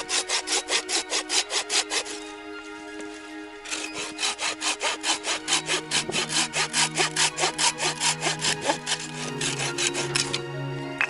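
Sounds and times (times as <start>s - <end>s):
hand saw cutting wood: 0.0s - 2.2s, 3.7s - 10.4s.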